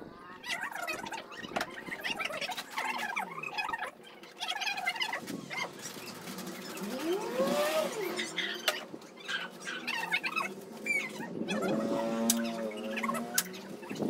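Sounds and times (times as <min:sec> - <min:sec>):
chicks peeping: 0:00.2 - 0:14.0.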